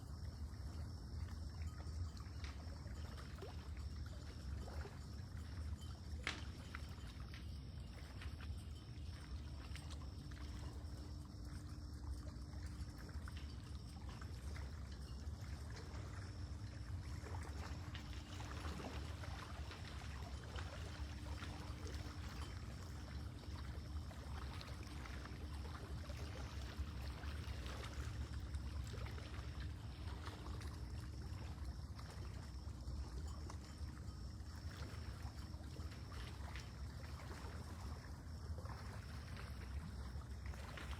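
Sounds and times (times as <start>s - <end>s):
water lapping at shore: 0.0s - 40.9s.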